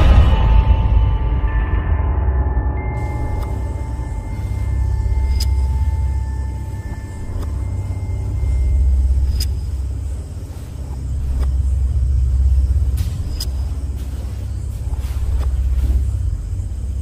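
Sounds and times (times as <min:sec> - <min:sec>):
deep rumbling drone: 0:00.0 - 0:17.0
sharp ticks: 0:03.0 - 0:17.0.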